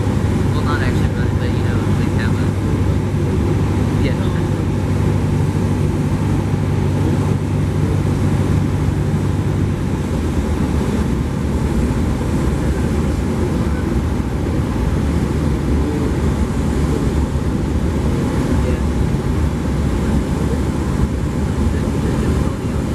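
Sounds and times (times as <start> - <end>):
airflow noise: 0.0 - 22.9
propeller aircraft engine running: 0.0 - 22.9.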